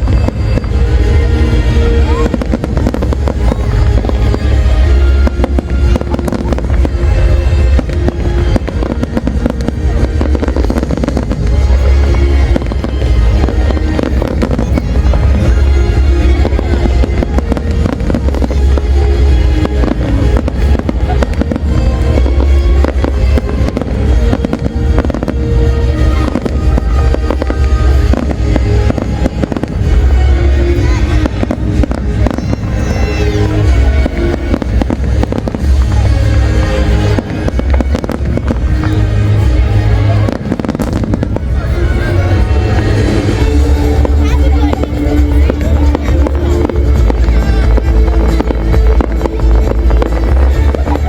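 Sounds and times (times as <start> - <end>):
fireworks bangs and crackles: 0.0 - 51.0
music playing: 0.0 - 51.0.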